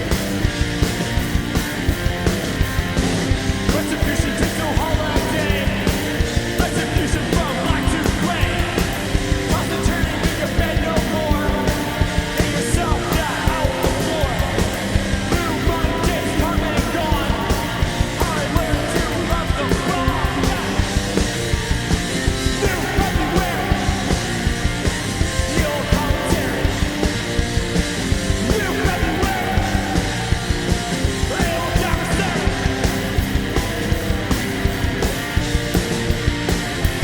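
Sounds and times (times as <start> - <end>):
distorted electric guitars: 0.0 - 37.0
driving drum beat: 0.0 - 37.0.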